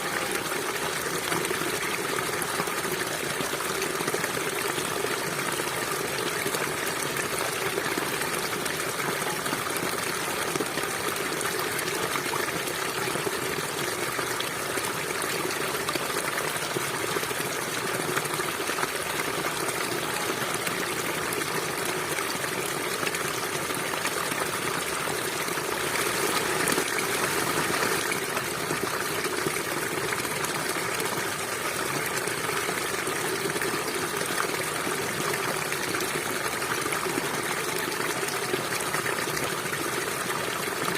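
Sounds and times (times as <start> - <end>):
water running over rocks: 0.0 - 40.9.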